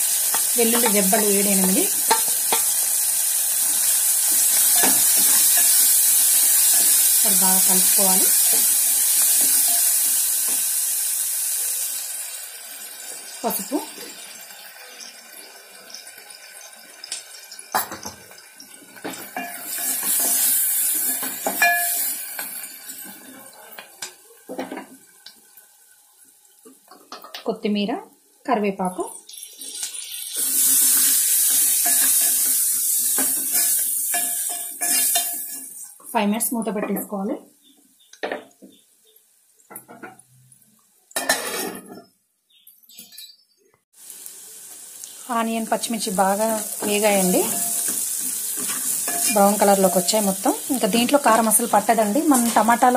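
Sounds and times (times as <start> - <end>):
oil sizzling: 0.0 - 41.8, 43.9 - 52.9.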